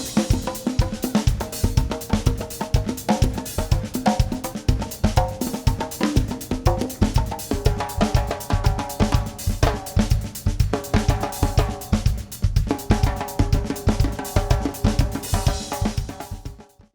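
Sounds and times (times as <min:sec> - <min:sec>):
instrumental music with drum beat: 0:00.0 - 0:16.9.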